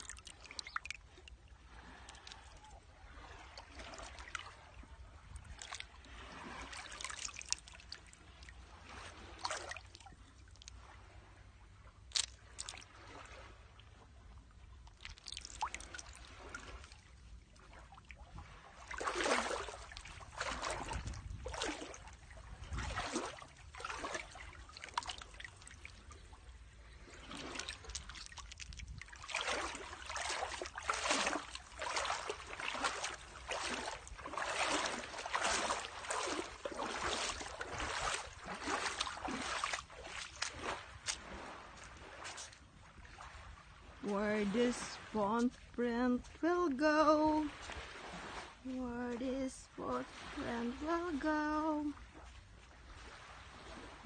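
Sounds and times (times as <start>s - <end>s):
waves lapping against rocks: 0.0s - 54.0s.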